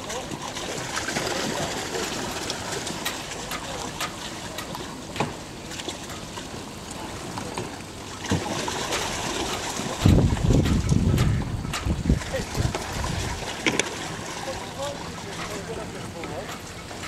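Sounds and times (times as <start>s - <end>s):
water trickling and lapping: 0.0s - 17.0s.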